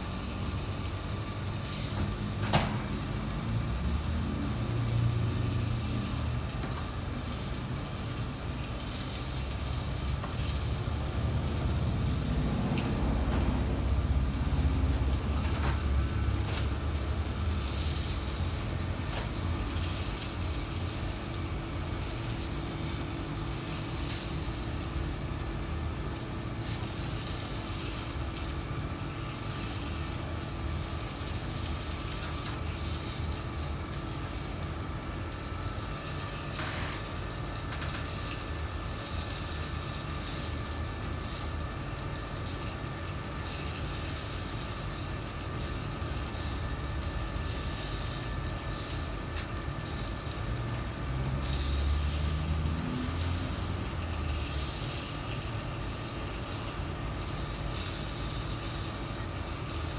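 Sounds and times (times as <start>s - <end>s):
chicken sizzling on griddle: 0.0s - 59.9s.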